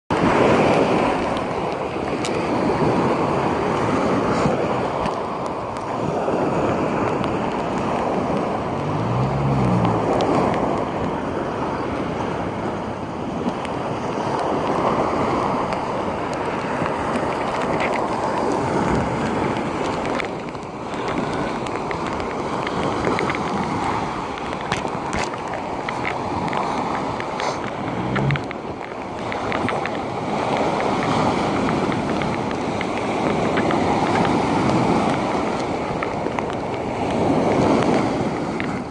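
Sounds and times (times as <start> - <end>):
surf breaking on beach: 0.1 - 38.9
wind buffeting microphone: 0.1 - 38.9.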